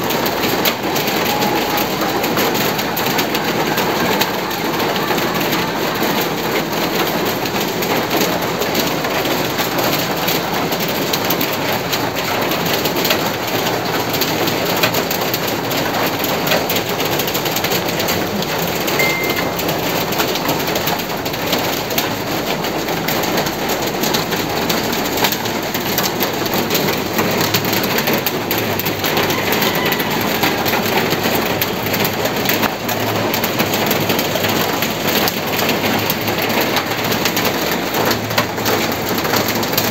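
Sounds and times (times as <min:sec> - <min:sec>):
heavy rain pattering on leaves: 0:00.0 - 0:39.9.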